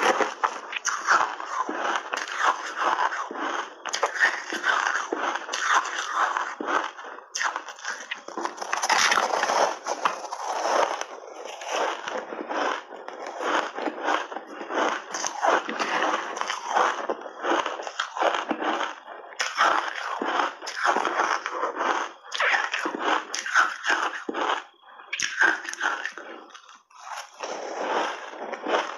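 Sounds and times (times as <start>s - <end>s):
chewing crunchy ice: 0.0s - 28.9s.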